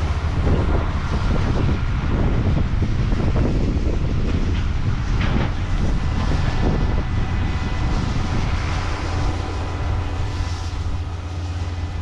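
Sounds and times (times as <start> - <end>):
harvest machinery engine drone: 0.0 - 12.0.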